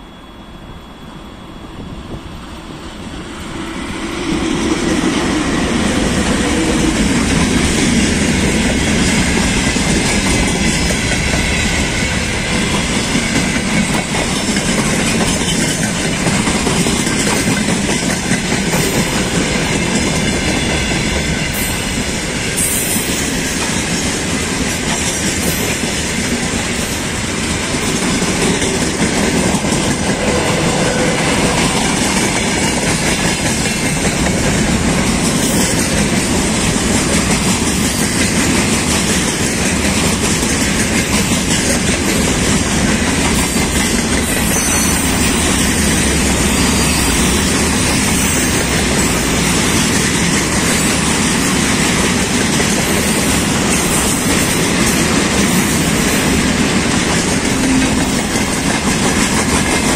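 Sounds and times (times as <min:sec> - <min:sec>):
electric locomotive passing: 0:00.0 - 0:59.9
wheels clacking over rail joints: 0:04.9 - 0:22.2, 0:23.0 - 0:59.9.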